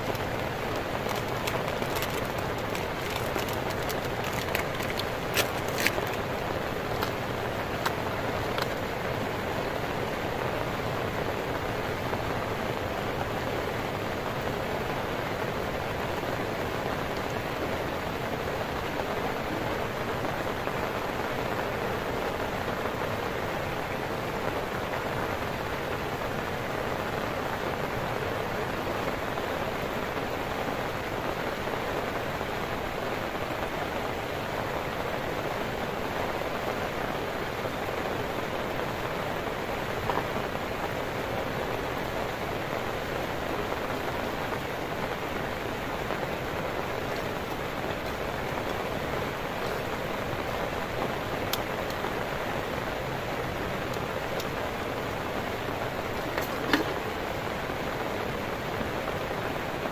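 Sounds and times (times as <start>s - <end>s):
river rushing: 0.0s - 59.9s
steady rain: 0.0s - 59.9s.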